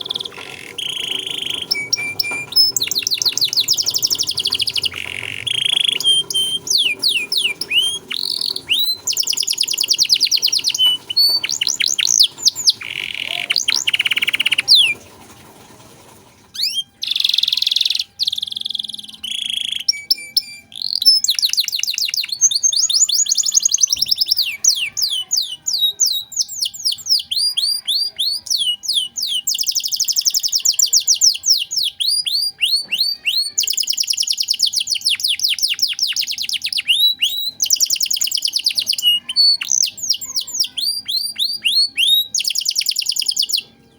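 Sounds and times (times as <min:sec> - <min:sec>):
canary singing trills: 0:00.0 - 0:15.1, 0:16.5 - 0:43.9.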